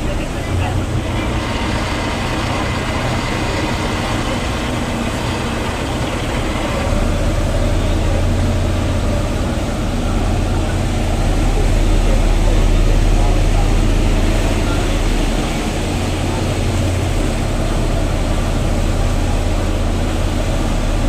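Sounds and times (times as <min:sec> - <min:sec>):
ferry engine droning: 0:00.0 - 0:21.0
wash of noise: 0:00.0 - 0:21.0.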